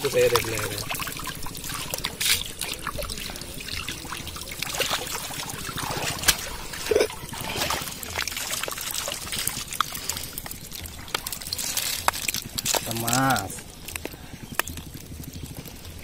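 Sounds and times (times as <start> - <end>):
water dripping and trickling: 0.0 - 16.0.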